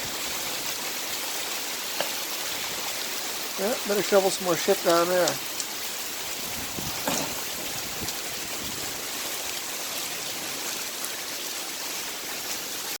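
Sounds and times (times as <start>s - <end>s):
heavy rain downpour: 0.0s - 13.0s
runoff water splashing from gutters: 0.0s - 13.0s.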